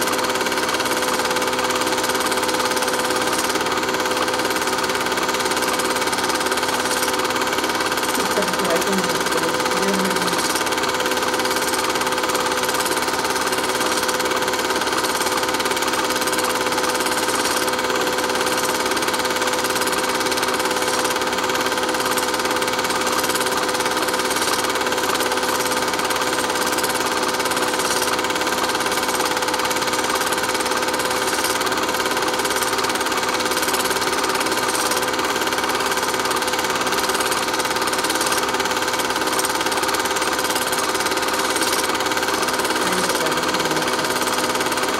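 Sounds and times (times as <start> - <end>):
mechanical hum and rattle: 0.0 - 44.9.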